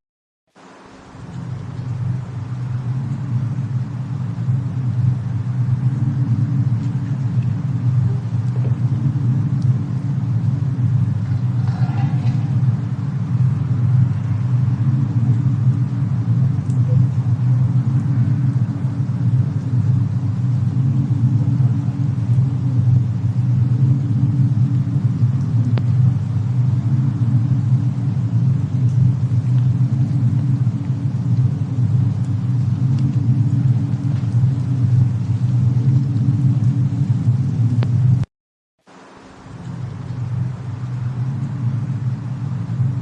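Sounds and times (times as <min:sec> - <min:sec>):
low ambient rumble: 0:00.5 - 0:38.3, 0:38.9 - 0:43.0
faint fire crackles: 0:00.5 - 0:43.0.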